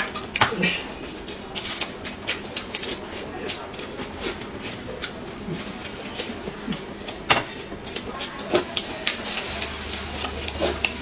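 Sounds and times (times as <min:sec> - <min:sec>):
people chewing and smacking: 0:00.0 - 0:11.0.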